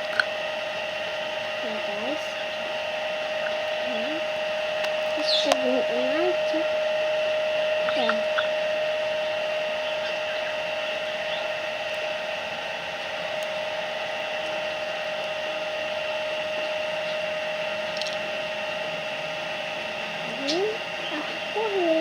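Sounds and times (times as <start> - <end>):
steady motor hum: 0.0 - 22.0.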